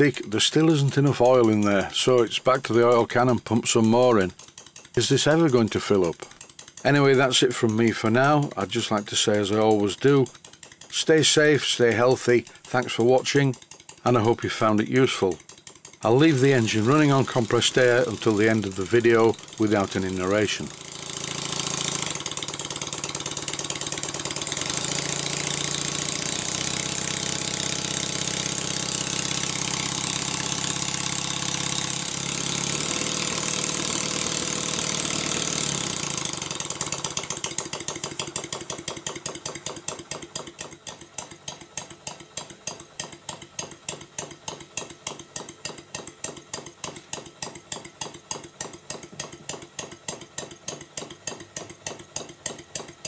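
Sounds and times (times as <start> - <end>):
engine exhaust puffs: 0.0 - 53.0.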